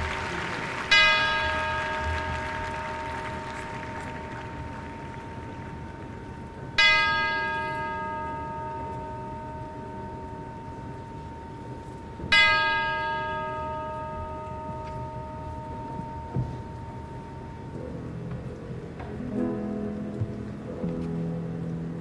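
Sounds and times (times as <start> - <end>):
large bell ringing: 0.0 - 18.2.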